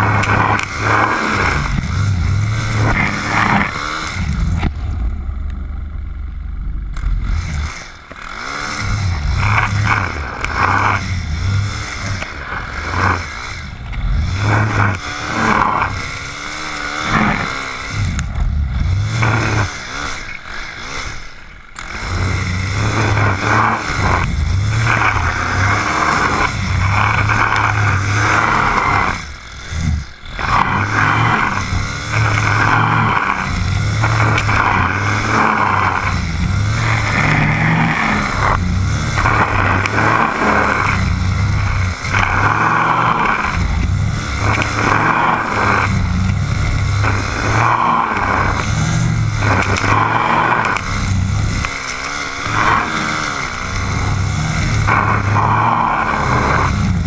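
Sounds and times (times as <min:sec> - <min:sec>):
brushcutter engine running: 0:00.0 - 0:57.0.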